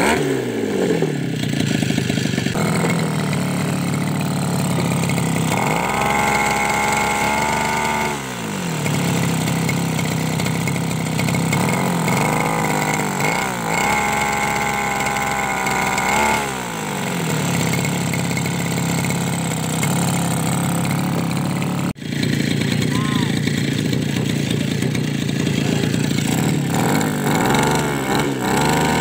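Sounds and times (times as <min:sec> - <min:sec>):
small two-stroke engine revving: 0:00.0 - 0:29.0.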